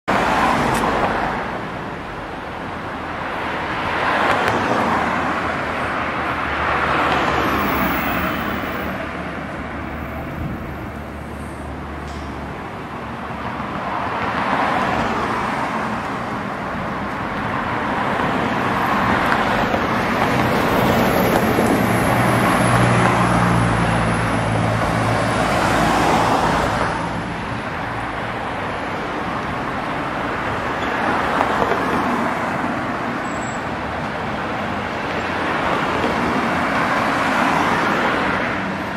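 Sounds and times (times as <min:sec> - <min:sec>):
cars passing: 0:00.1 - 0:38.9.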